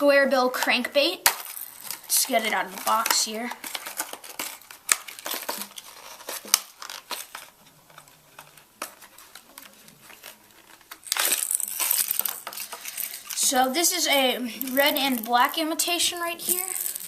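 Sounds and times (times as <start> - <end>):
packaging crinkling and tearing: 1.2 - 17.0
packaging clicks: 1.3 - 17.0.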